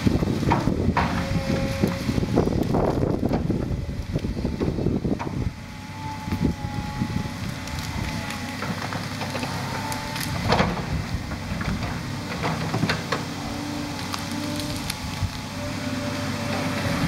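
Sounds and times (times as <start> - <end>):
wood cracking and snapping: 0.0 - 15.8
excavator diesel engine under load: 0.0 - 17.0.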